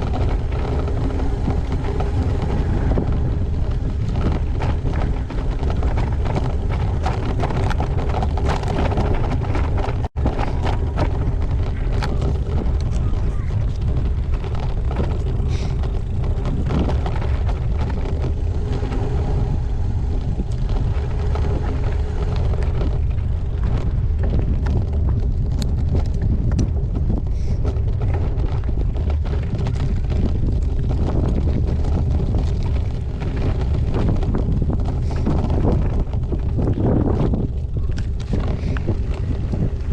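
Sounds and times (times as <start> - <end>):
bike clicks and knocks: 0.0 - 39.9
wind buffeting microphone: 0.0 - 39.9.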